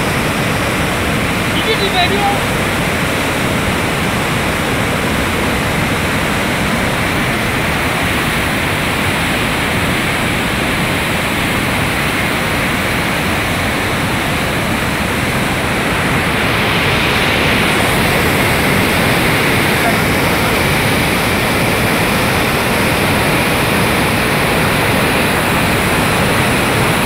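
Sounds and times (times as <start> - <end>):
flood water rushing: 0.0 - 27.0.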